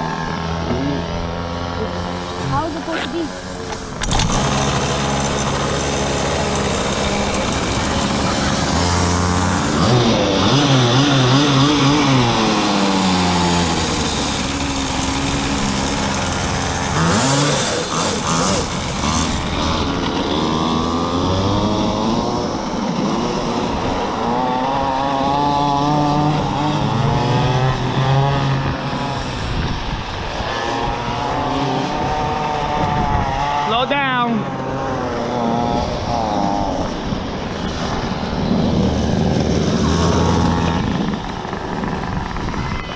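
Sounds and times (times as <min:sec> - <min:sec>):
small engine running unevenly: 0:00.0 - 0:42.9.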